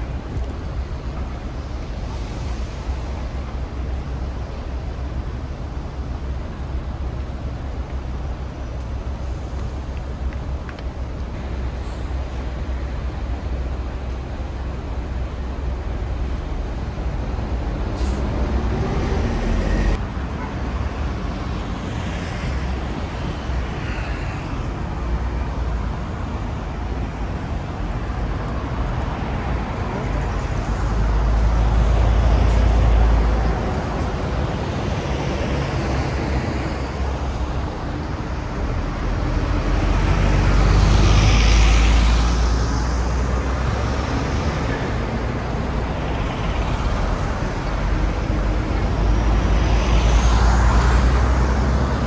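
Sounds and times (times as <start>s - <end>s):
city road traffic rumble: 0.0s - 52.0s.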